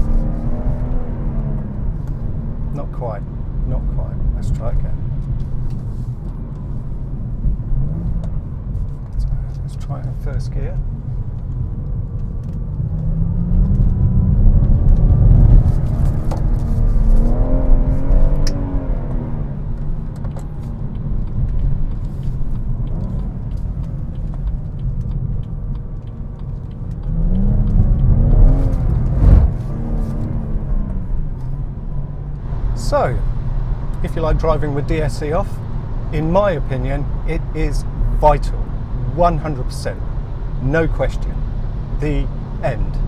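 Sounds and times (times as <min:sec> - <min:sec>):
car engine revving: 0:00.0 - 0:10.6, 0:11.7 - 0:43.0.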